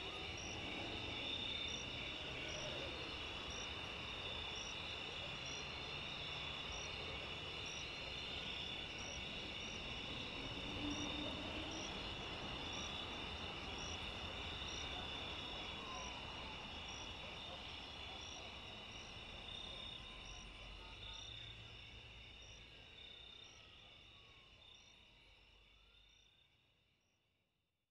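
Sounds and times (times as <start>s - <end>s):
crickets trilling: 0.0s - 26.3s
cricket chirp: 0.0s - 27.3s.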